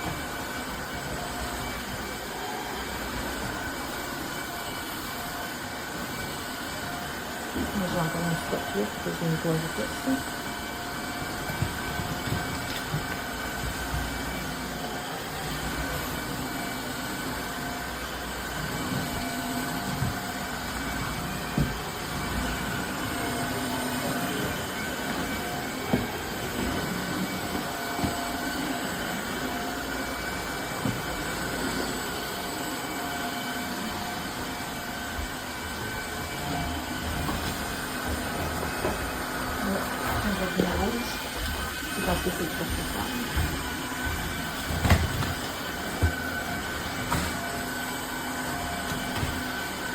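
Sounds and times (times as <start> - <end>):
vacuum mop running: 0.0 - 49.9.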